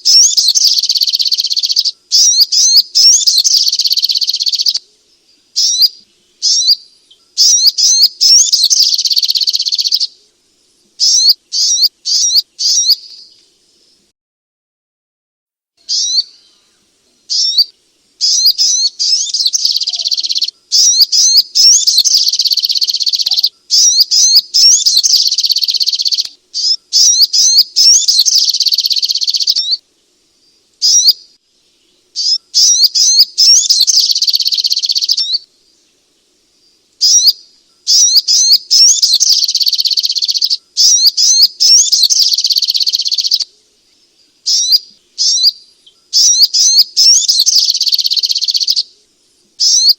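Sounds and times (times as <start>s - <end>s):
bird chirping high and sharp: 0.0s - 4.8s, 5.6s - 10.2s, 11.0s - 13.4s, 15.8s - 16.4s, 17.3s - 29.8s, 30.8s - 31.4s, 32.2s - 35.5s, 37.0s - 43.5s, 44.4s - 48.9s, 49.6s - 49.9s.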